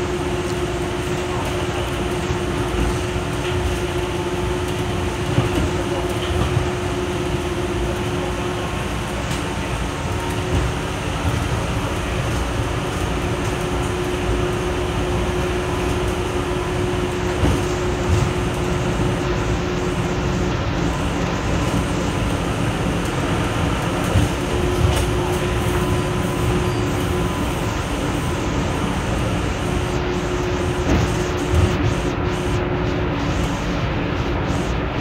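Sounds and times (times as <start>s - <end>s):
constant hum: 0.0s - 35.0s
train rolling rumble: 0.0s - 35.0s.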